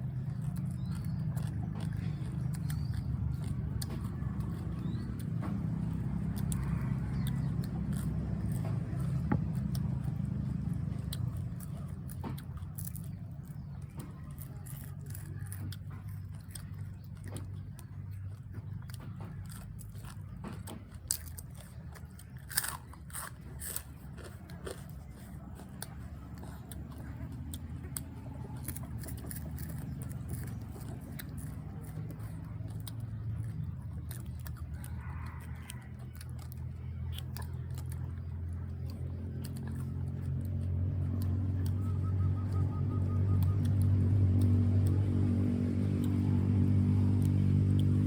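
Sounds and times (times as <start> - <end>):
crunchy biting and chewing: 0.0 - 48.0
steady low hum: 0.0 - 48.0.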